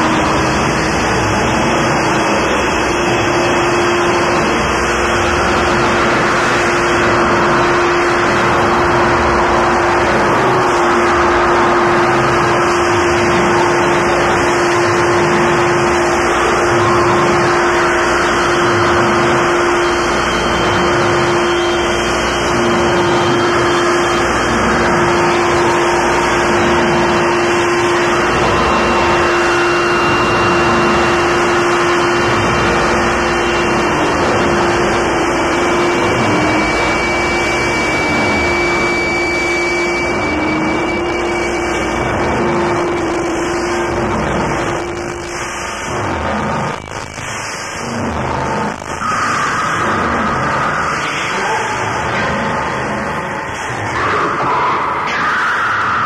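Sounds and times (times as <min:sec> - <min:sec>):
droning feedback tone: 0:00.0 - 0:56.0
harsh distorted noise music: 0:00.0 - 0:56.0.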